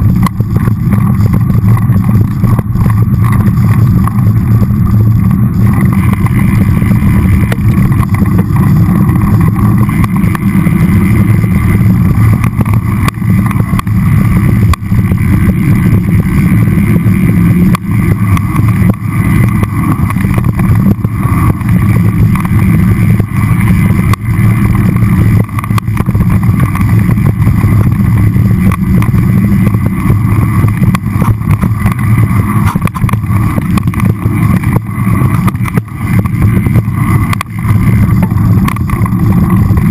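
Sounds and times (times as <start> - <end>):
bike frame shaking over bumps: 0.0 - 39.9
tyres rumbling on packed dirt: 0.0 - 39.9
wind against microphone: 0.0 - 39.9.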